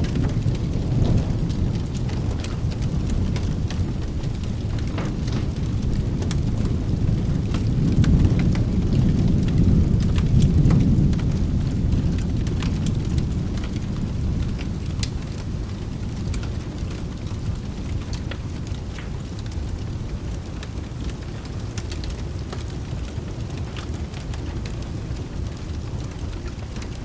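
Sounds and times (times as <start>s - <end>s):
rolling thunder rumble: 0.0s - 27.0s
steady rain: 0.0s - 27.0s.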